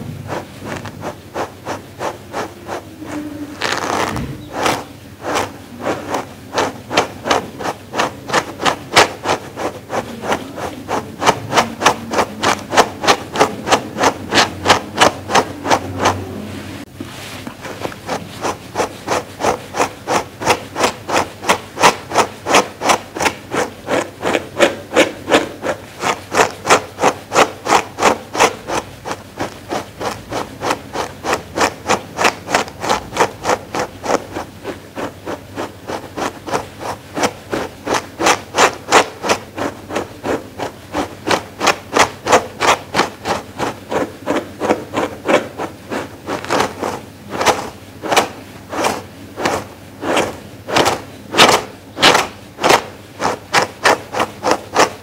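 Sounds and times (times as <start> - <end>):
brush rubbing on fur: 0.0 - 55.0.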